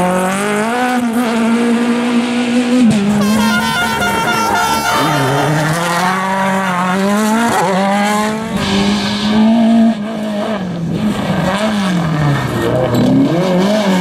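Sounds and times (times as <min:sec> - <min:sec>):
rally car engines revving: 0:00.0 - 0:14.0.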